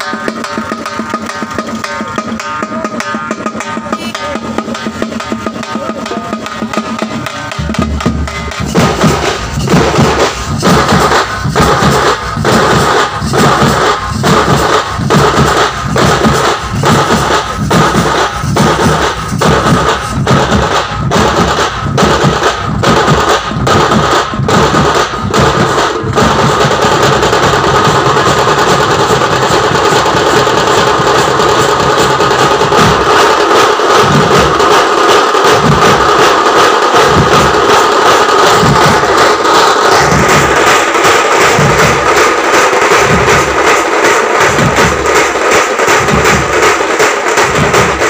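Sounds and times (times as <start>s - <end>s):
drum band playing fast rhythms: 0.0s - 48.0s.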